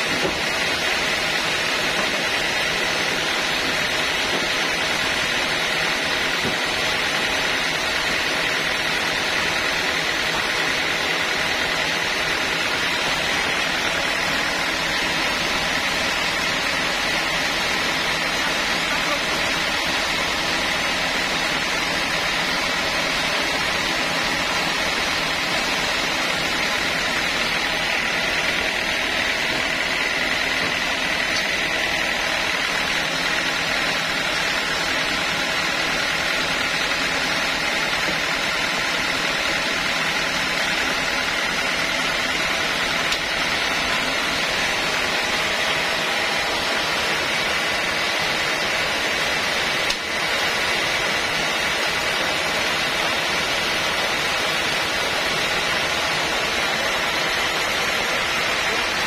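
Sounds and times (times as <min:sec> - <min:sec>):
band sawmill whirring: 0:00.0 - 0:59.0.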